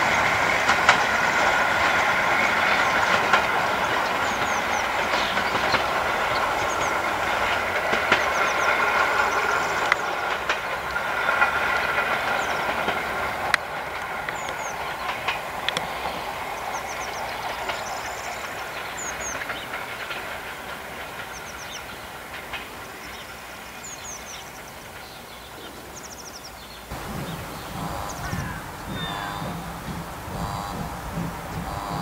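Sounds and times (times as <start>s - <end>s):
train rumble: 0.0s - 32.0s
train wheels clicking over rail joints: 0.0s - 32.0s.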